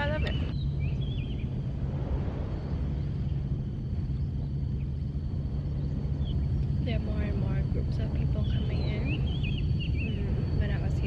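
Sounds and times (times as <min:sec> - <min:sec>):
low rumble of seaside ambience: 0:00.0 - 0:11.0.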